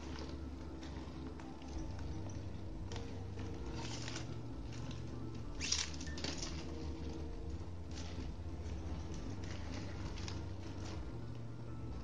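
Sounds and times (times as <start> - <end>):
low steady hum: 0.0 - 12.0
plastic strands rustling: 0.0 - 12.0.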